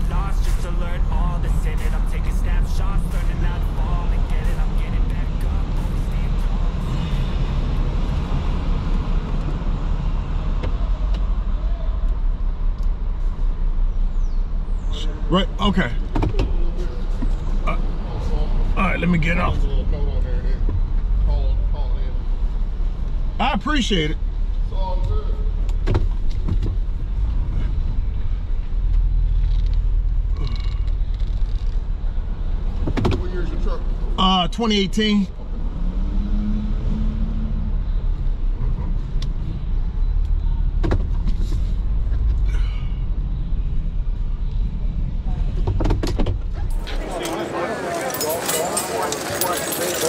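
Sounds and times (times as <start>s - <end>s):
car idling low rumble: 0.0s - 35.5s, 37.8s - 47.1s.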